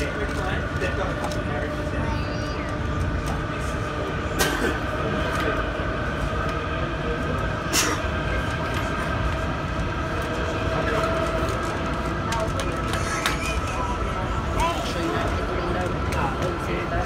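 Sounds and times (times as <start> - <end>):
constant whine: 0.0 - 17.0
train wheels rumbling on rail: 0.0 - 17.0.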